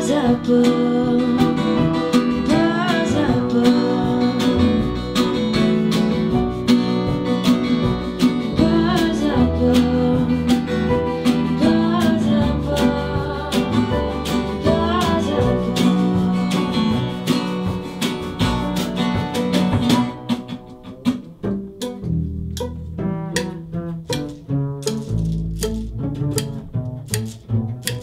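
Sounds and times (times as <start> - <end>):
acoustic guitar strumming: 0.0 - 28.0
cello: 0.0 - 28.0
violin: 0.0 - 28.0.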